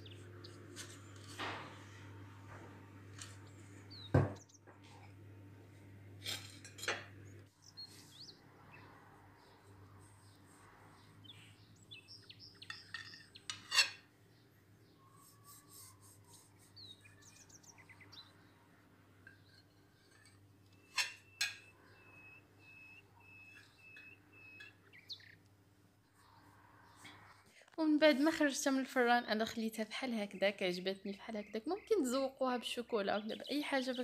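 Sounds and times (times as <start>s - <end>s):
faint birds chirping: 0.0s - 6.2s, 7.0s - 34.0s.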